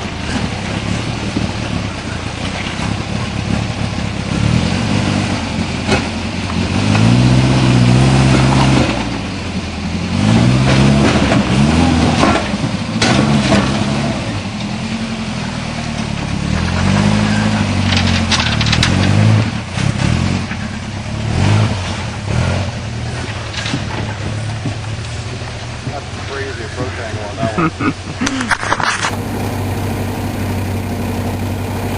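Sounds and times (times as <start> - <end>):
engine revving: 0.0 - 26.9, 27.5 - 31.9.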